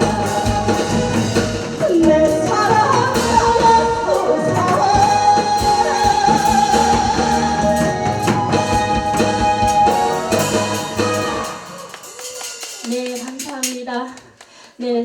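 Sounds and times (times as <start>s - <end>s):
person singing: 0.0s - 13.2s
backing band with drum beat: 0.0s - 14.5s.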